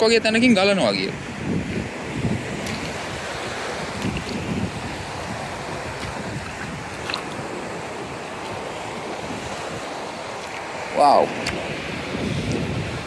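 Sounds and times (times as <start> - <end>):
wind on microphone: 0.0 - 13.0
small waves washing over pebbles: 1.3 - 13.0.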